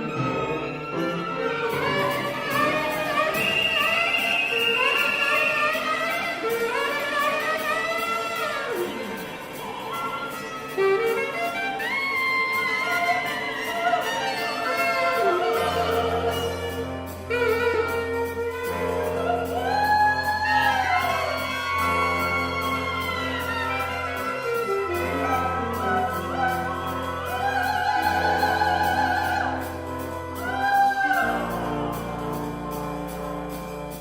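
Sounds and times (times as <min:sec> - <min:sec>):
chamber ensemble playing: 0:00.0 - 0:34.0.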